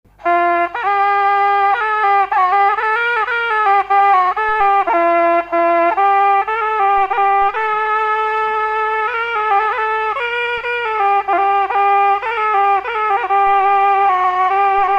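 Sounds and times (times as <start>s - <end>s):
reedy wind instrument melody: 0.1s - 14.9s.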